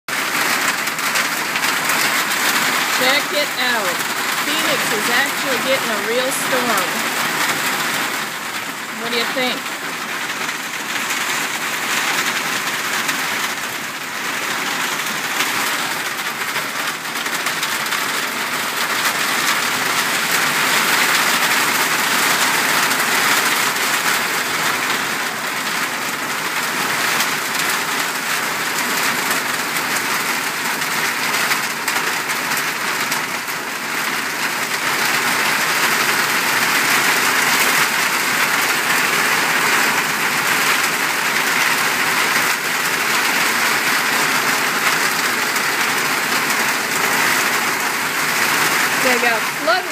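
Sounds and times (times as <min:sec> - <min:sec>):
heavy rain pouring on pavement: 0:00.1 - 0:49.9.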